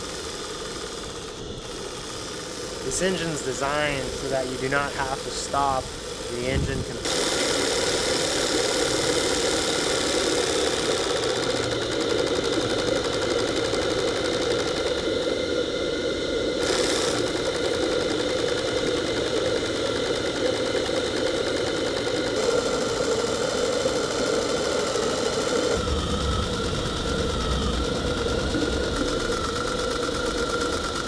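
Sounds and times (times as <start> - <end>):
steam engine running: 0.0 - 31.0
steam hiss: 0.0 - 31.0.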